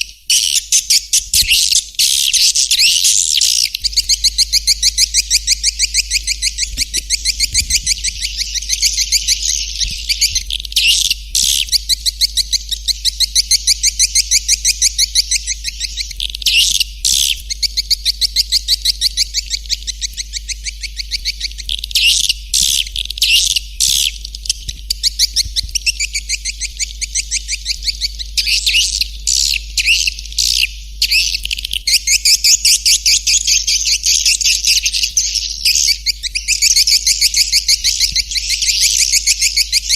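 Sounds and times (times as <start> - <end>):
steady low hum: 0.0 - 39.9
swiftlet chirps twittering: 0.0 - 39.9.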